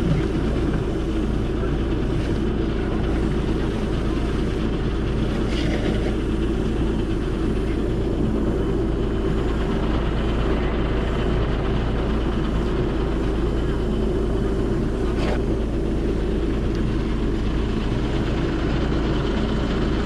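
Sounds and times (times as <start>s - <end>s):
truck engine and vacuum pump: 0.0s - 20.0s.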